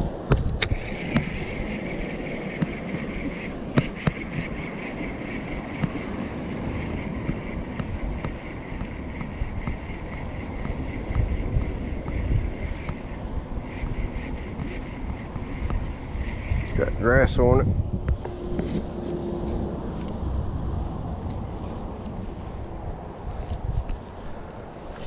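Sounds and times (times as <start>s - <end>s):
wind buffeting microphone: 0.0s - 25.0s
rapidly fluttering high buzz: 0.7s - 25.0s.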